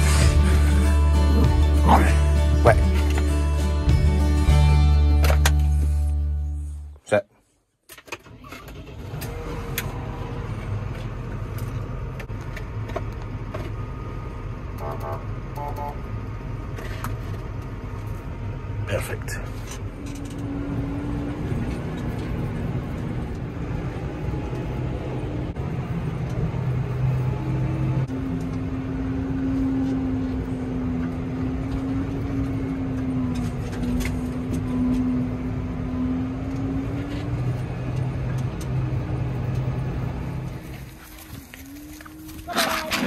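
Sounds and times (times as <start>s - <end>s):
tractor engine running: 0.0s - 7.1s, 7.9s - 43.0s.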